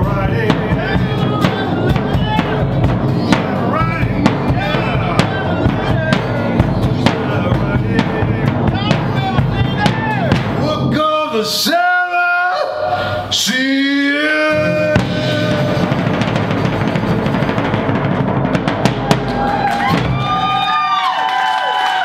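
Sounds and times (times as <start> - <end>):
cymbals and drums: 0.0 - 11.0, 14.5 - 21.2
acoustic guitar: 0.0 - 11.2, 14.0 - 20.6.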